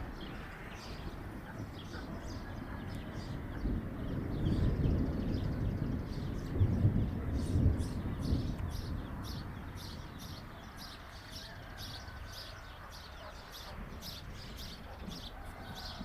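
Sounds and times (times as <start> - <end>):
thunder rumbling: 0.0 - 12.8, 13.5 - 16.0.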